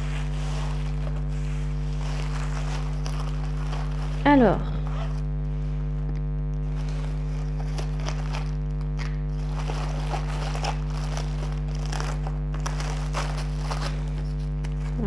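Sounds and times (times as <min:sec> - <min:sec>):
plastic packaging crinkling: 0:00.0 - 0:05.3, 0:06.6 - 0:15.0
steady electrical hum: 0:00.0 - 0:15.0.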